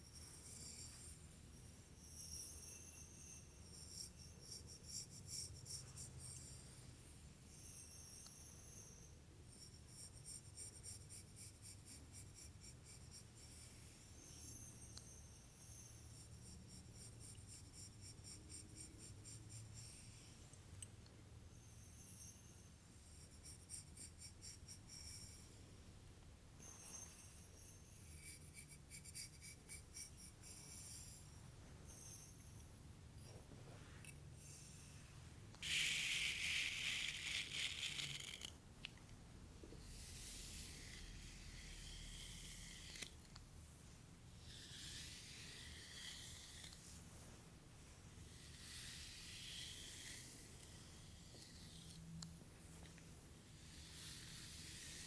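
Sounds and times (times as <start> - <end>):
scratchy tool strokes through hair: 7.6 - 20.6, 21.6 - 25.6, 26.6 - 39.0, 39.7 - 55.0.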